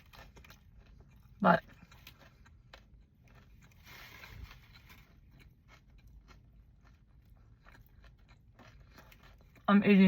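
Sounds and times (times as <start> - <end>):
faint close-up chewing: 0.0 - 10.0.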